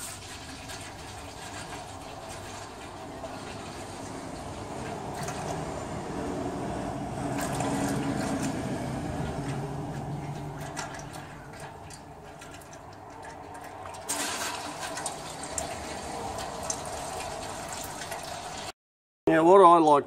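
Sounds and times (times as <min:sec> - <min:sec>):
fluid pouring stream: 0:00.0 - 0:18.7.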